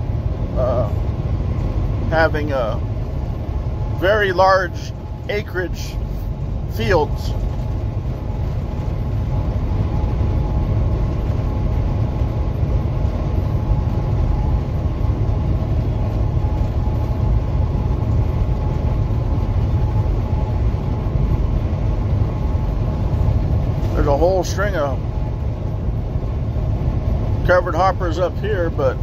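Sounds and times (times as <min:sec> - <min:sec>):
faint steady whine: 0:00.0 - 0:29.0
vehicle road and engine rumble: 0:00.0 - 0:29.0.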